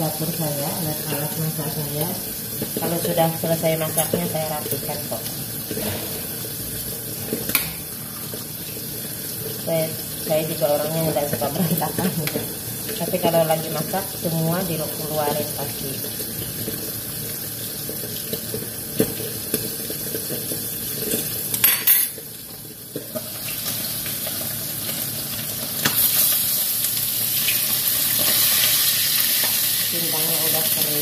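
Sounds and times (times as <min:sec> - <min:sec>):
fish frying sizzle: 0:00.0 - 0:31.0
greens simmering in a wok: 0:00.0 - 0:31.0.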